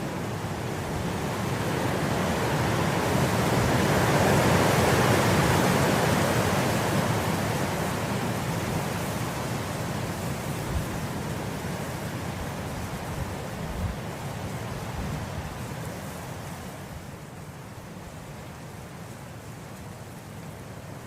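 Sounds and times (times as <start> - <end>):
wind blowing through grass: 0.0 - 21.0.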